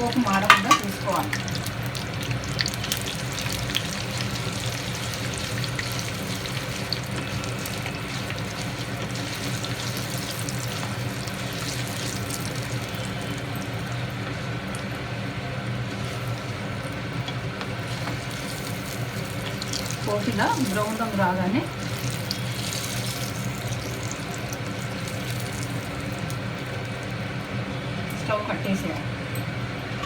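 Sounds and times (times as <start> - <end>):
spices sizzling in hot oil: 0.0 - 28.4.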